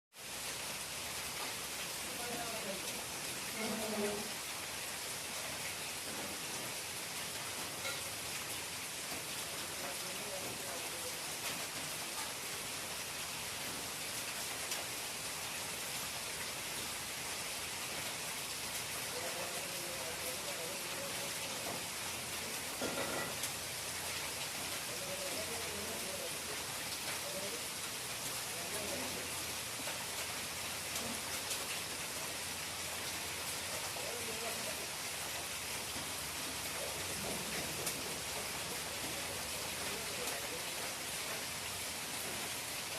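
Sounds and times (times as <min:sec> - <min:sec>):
falling water hiss: 0:00.1 - 0:42.9.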